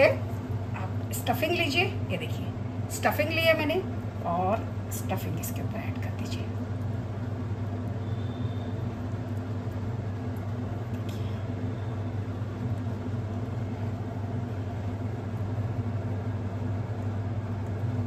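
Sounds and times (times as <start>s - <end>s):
low droning hum: 0.0s - 18.0s.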